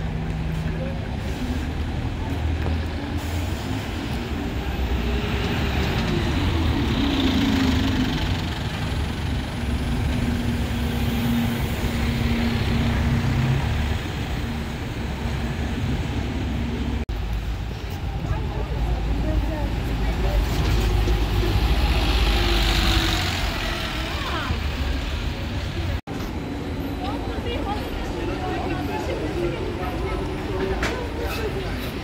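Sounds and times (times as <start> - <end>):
bus engines humming: 0.0 - 32.0
bus moving off: 0.0 - 32.0.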